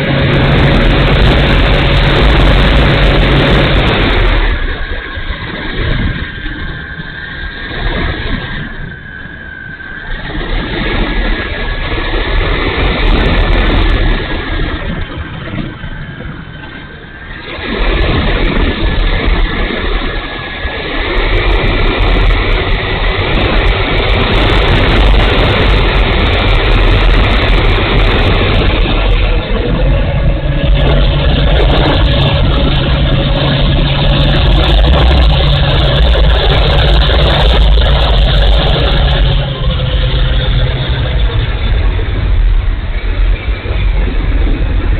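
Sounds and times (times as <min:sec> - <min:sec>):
model plane motor whine: 0:00.0 - 0:44.9
wind rush: 0:00.0 - 0:44.9.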